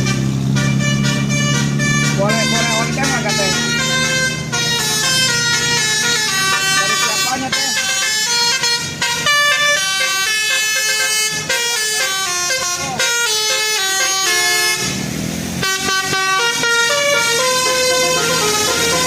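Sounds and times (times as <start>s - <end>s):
multi-tone bus horn melody: 0.0s - 19.0s.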